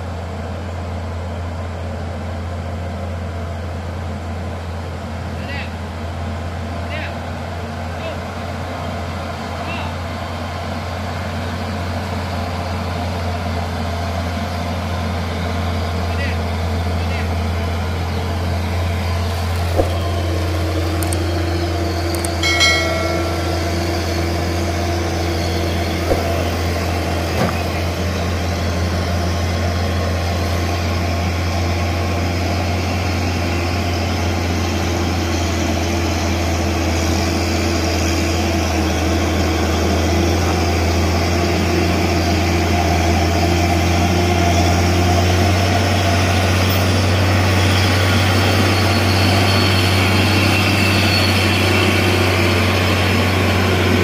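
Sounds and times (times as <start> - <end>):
diesel truck engine droning: 0.0 - 54.0.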